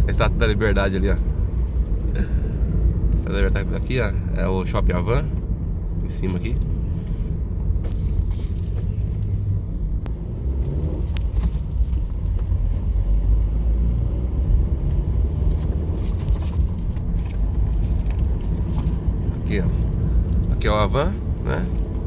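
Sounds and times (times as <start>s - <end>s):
road and engine rumble in car: 0.0s - 22.0s.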